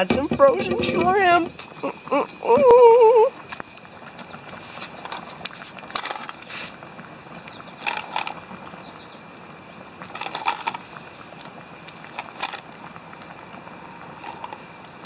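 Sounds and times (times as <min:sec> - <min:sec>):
simmering hiss: 0:00.0 - 0:15.0.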